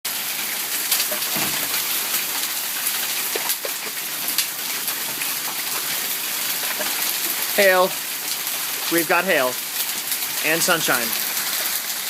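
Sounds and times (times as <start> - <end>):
heavy rain hissing: 0.1 - 12.0
hailstones clicking: 0.2 - 12.0.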